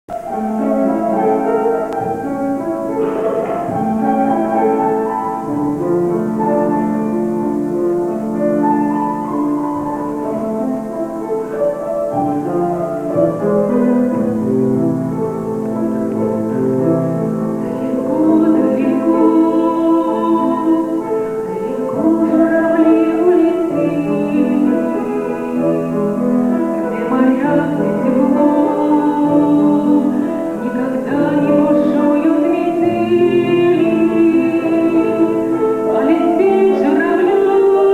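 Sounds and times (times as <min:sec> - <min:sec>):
person singing: 0:00.1 - 0:14.7, 0:15.5 - 0:37.9
slow instrumental music: 0:00.1 - 0:37.9.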